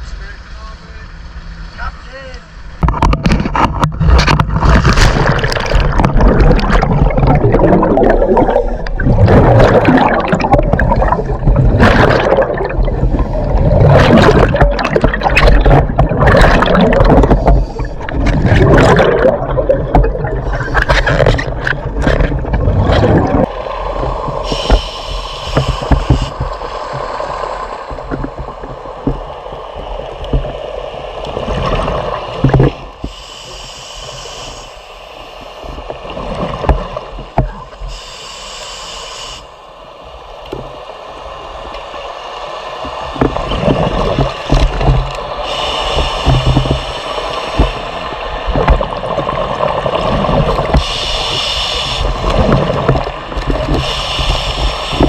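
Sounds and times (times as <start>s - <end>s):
underwater bubbles gurgling: 2.8s - 55.0s.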